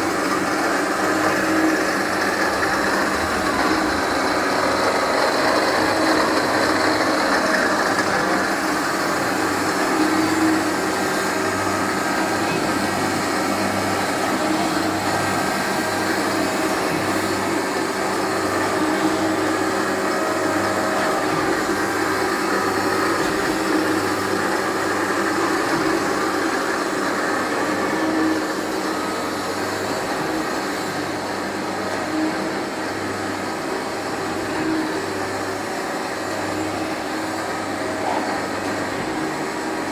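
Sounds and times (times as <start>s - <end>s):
grinding machine humming: 0.0s - 39.9s.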